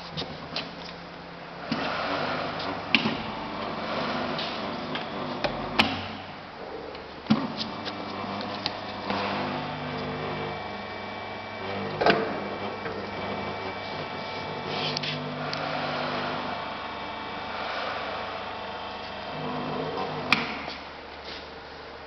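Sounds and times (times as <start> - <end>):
welding machine humming: 1.6 - 6.4, 7.5 - 20.8.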